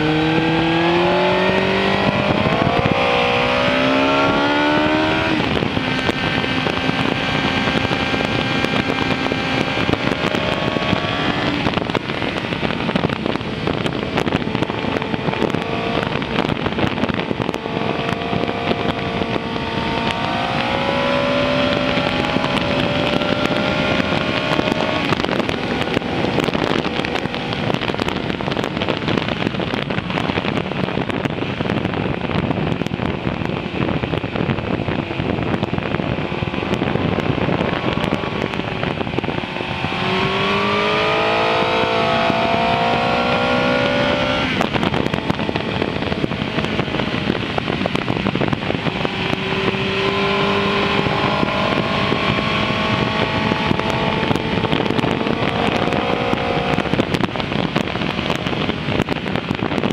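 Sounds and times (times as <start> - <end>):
heavy wind noise: 0.0 - 59.9
motorcycle engine running: 0.0 - 59.9.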